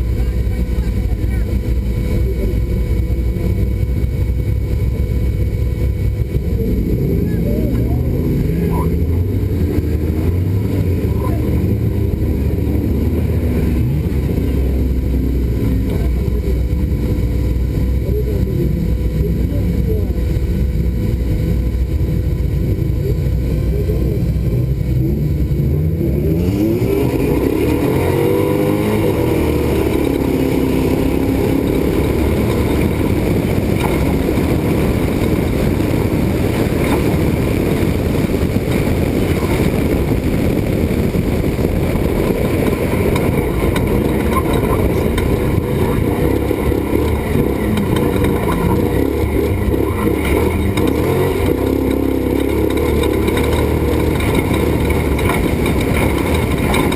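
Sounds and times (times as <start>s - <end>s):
road noise and rattling: 0.0s - 56.9s
truck engine revving through gears: 0.0s - 56.9s.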